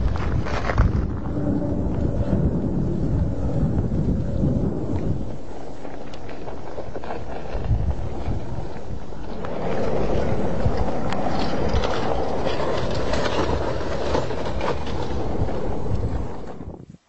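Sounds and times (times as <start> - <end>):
volcanic eruption rushing and crackling: 0.0 - 17.0.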